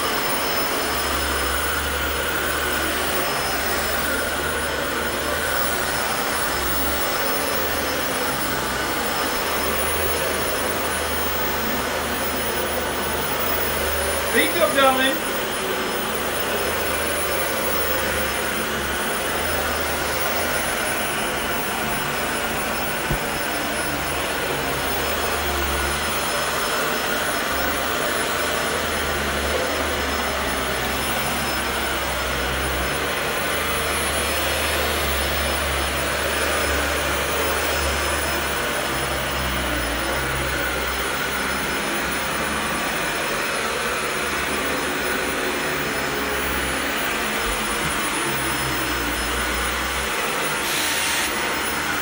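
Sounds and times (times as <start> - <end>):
vacuum cleaner running on carpet: 0.0 - 52.0.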